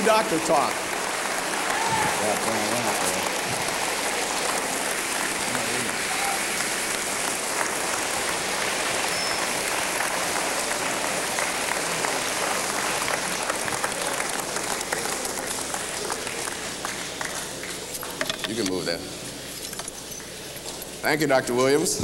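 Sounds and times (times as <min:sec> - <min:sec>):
audience applauding: 0:00.0 - 0:18.2.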